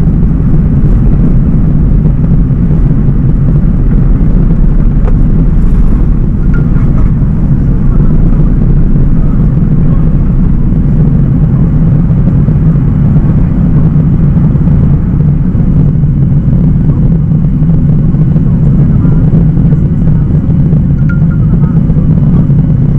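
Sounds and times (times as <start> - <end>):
airplane cabin rumble: 0.0 - 22.9.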